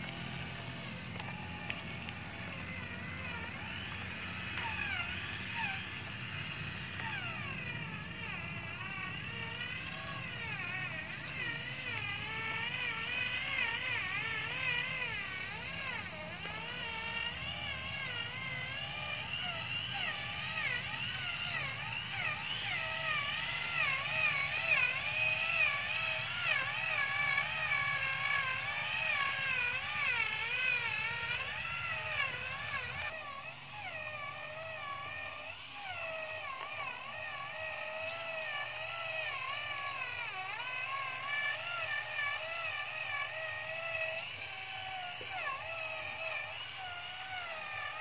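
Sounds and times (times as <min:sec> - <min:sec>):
toy truck motor whining: 0:00.0 - 0:48.0.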